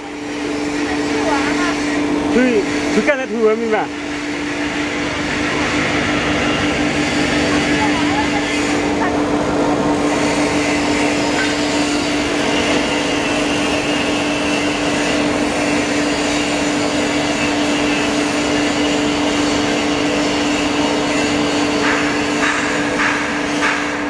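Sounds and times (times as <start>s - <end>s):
foam slicing machine whirring: 0.0s - 24.0s.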